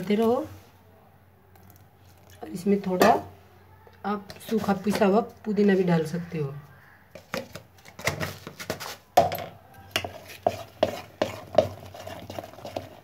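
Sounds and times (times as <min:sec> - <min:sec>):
spoon stirring batter: 0:00.0 - 0:00.8, 0:01.5 - 0:13.0.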